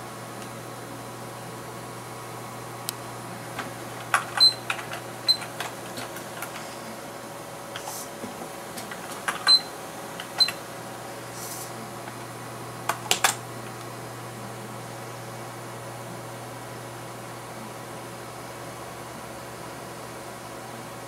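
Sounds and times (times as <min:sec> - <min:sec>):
computer fans humming: 0:00.0 - 0:21.0.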